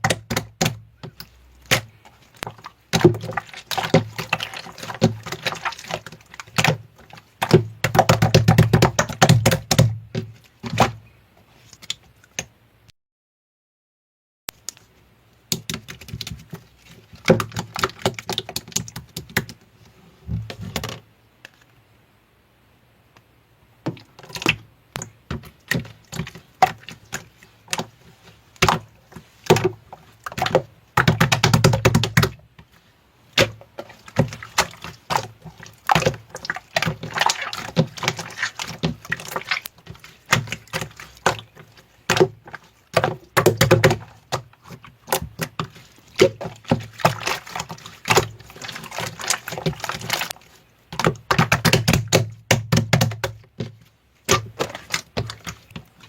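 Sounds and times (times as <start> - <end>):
slime squishing by hand: 0.0 - 12.6, 15.5 - 21.0, 23.8 - 56.0.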